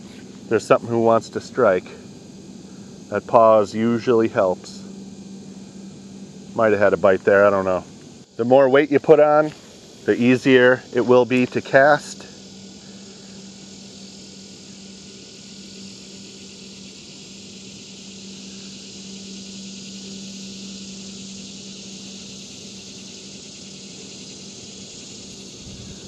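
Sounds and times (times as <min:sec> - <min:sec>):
faint low hum: 0:00.0 - 0:26.0
insect chorus buzzing: 0:00.0 - 0:26.0.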